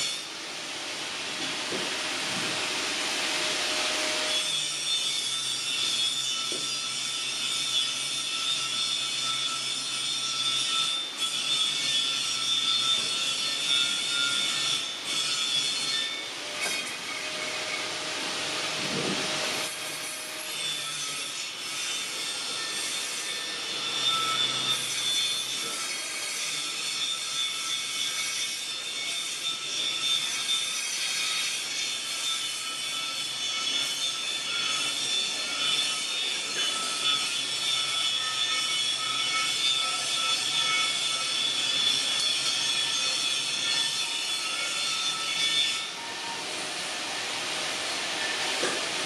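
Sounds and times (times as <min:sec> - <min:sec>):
machine squealing and grinding metal: 0:01.6 - 0:49.0.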